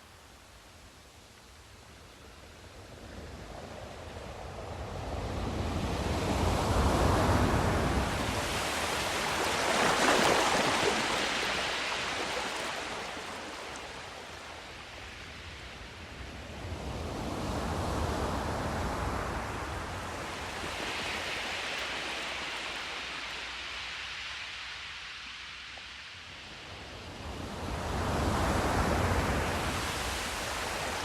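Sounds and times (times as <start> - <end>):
sea waves washing in: 3.0 - 31.0.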